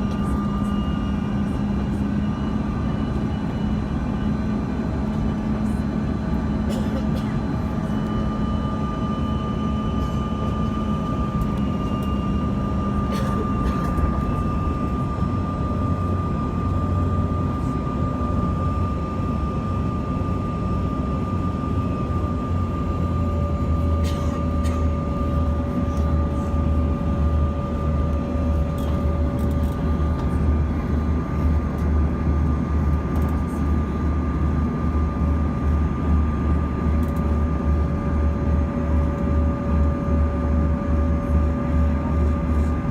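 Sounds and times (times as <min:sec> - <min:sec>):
jet engine drone: 0:00.0 - 0:42.9
steady whining tone: 0:00.0 - 0:42.9.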